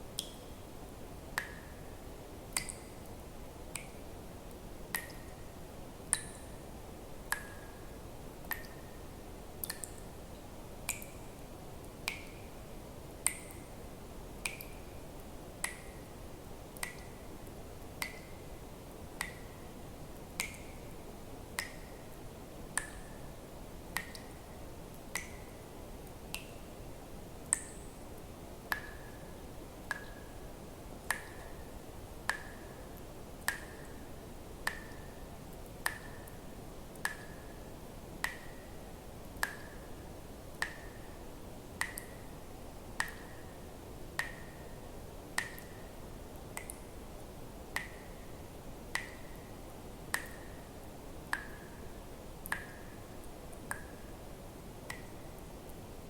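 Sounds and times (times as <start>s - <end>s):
soft steady hiss: 0.0s - 56.0s.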